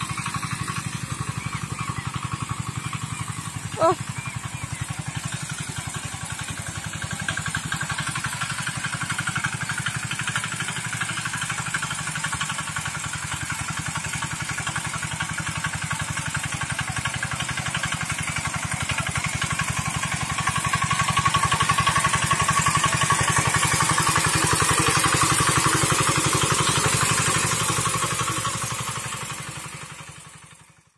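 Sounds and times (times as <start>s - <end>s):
diesel engine chugging: 0.0s - 30.9s.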